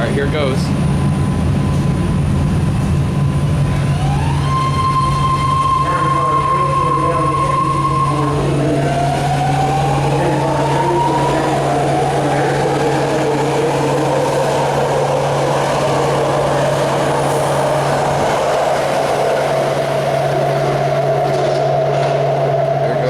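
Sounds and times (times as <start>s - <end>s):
high train whine: 0.0s - 23.0s
train rumbling: 0.0s - 23.0s.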